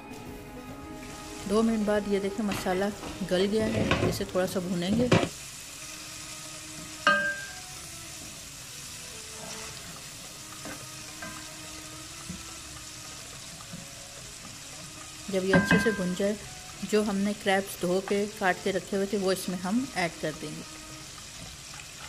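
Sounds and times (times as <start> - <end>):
masala sizzling in pot: 0.0 - 22.0.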